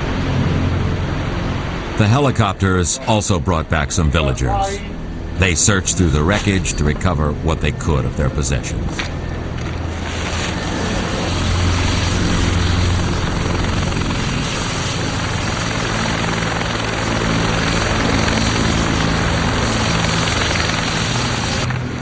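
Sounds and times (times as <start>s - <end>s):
helicopter rotor beat: 0.0s - 22.0s
high steady whine: 0.0s - 22.0s.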